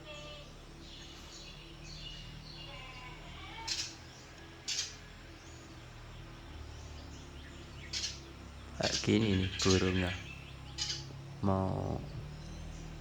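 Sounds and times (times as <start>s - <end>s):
harsh buzzy bird calls: 0.0s - 13.0s.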